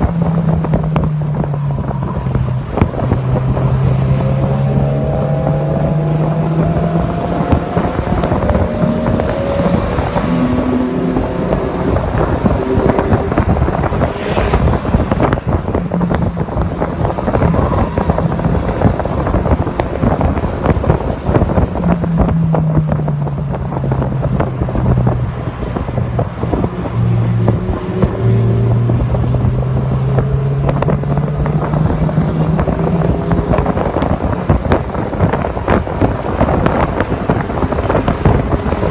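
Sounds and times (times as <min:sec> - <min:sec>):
car engine pulling at speed: 0:00.0 - 0:38.9
wind buffeting on microphone: 0:00.0 - 0:38.9.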